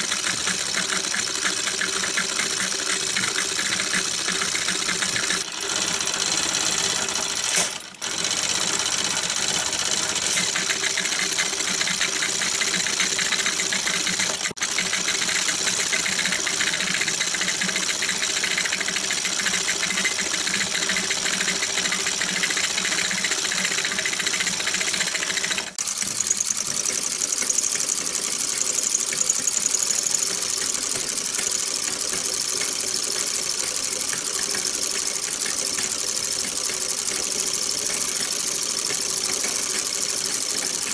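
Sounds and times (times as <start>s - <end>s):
film projector chattering: 0.0s - 40.9s.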